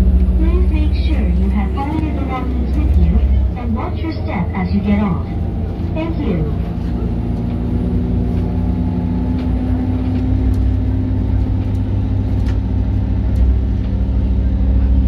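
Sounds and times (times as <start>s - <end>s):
bus engine hum: 0.0s - 15.0s.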